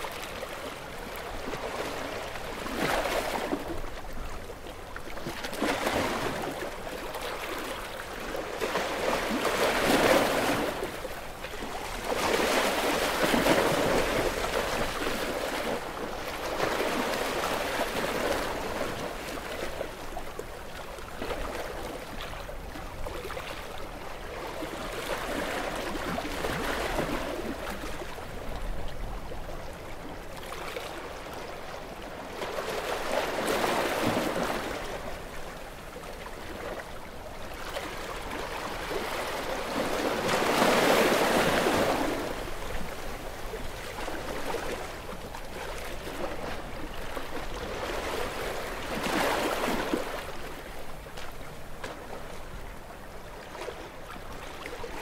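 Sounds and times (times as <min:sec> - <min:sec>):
small ocean waves washing in: 0:00.0 - 0:55.0.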